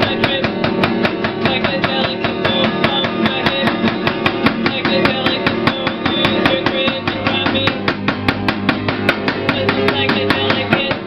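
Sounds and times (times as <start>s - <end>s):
fast strummed acoustic guitar: 0.0s - 11.0s.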